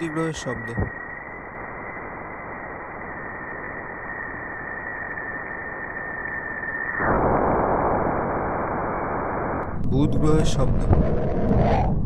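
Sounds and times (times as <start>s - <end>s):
static-like hiss: 0.0s - 12.0s.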